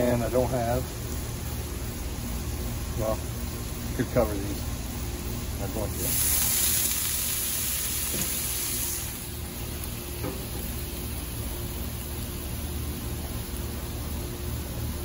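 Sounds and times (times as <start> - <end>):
water hissing on hot griddle: 0.0 - 15.0.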